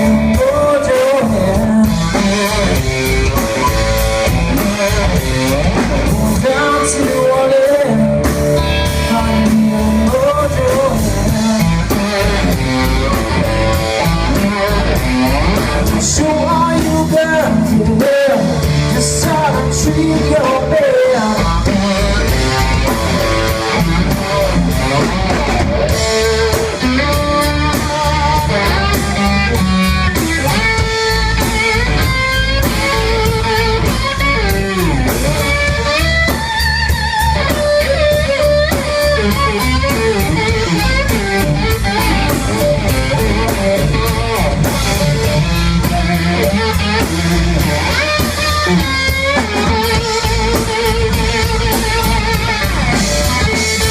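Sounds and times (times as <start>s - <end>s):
blues-rock band playing: 0.0s - 53.9s
electric guitar bending notes: 0.0s - 53.9s.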